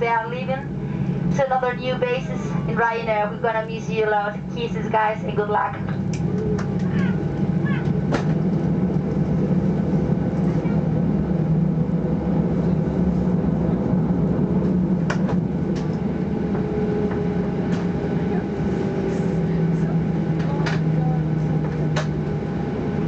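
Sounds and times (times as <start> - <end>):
aircraft engines and cabin air drone: 0.0 - 23.0.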